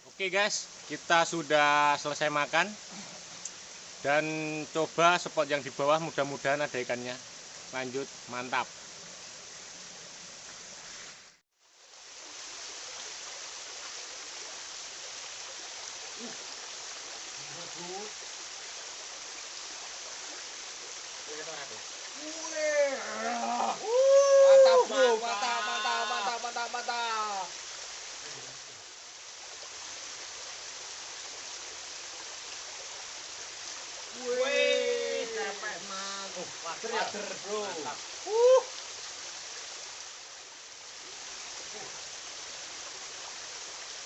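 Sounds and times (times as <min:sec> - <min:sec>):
river water rushing: 0:06.7 - 0:44.0.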